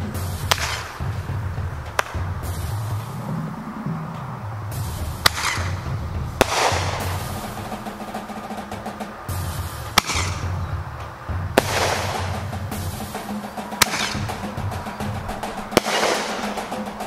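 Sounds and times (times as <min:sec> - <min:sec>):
background music: 0:00.0 - 0:17.0
sharp cracks with hiss: 0:00.0 - 0:17.0.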